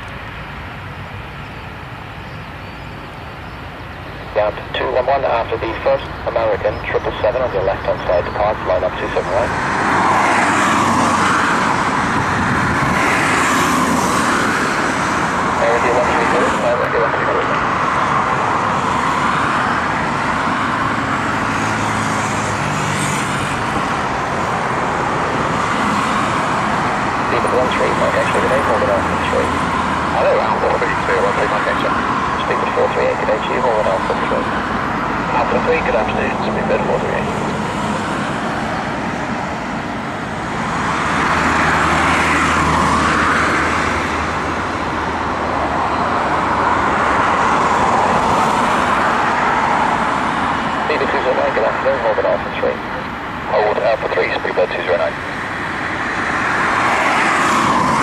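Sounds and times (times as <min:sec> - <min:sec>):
jet engines rushing: 0:00.0 - 0:58.0.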